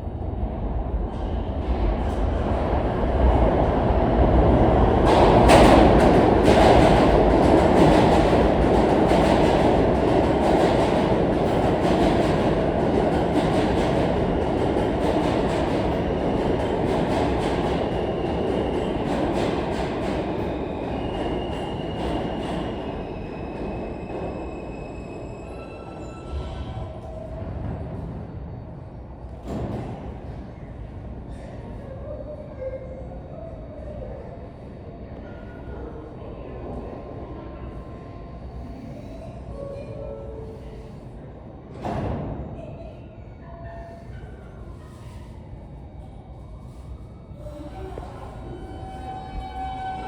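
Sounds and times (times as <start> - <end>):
subway train rumbling: 0.0 - 50.0.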